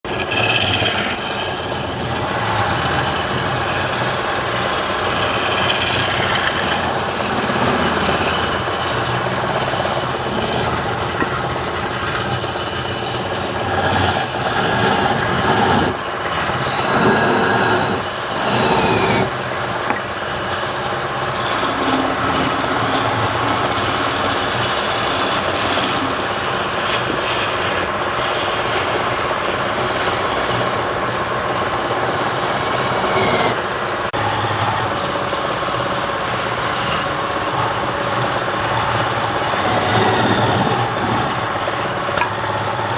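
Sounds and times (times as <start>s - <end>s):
turning tool scraping wood: 0.0s - 42.9s
wood lathe running: 0.0s - 42.9s.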